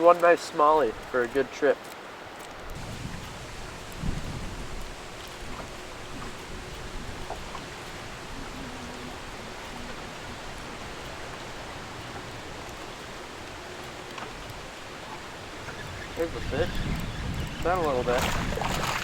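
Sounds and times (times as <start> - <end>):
rain on lake water: 0.0 - 19.0
wind: 0.0 - 19.0
faint ticks: 0.1 - 19.0.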